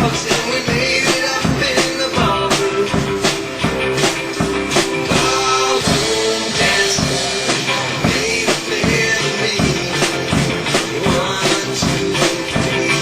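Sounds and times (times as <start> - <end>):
drum kit steady beat: 0.0 - 13.0
rock song: 0.0 - 13.0.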